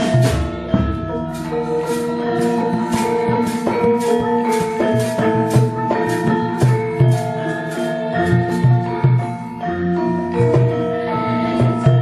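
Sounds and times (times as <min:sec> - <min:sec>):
low gong-like tones: 0:00.0 - 0:12.0
ringing metallophone notes: 0:00.0 - 0:12.0
sharp percussive strikes: 0:00.0 - 0:12.0.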